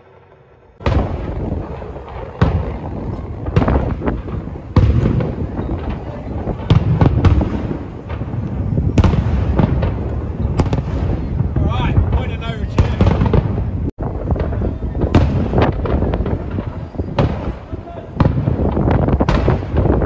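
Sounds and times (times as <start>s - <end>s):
fireworks bursting: 0.0s - 20.0s
low rumble of booms: 0.8s - 20.0s.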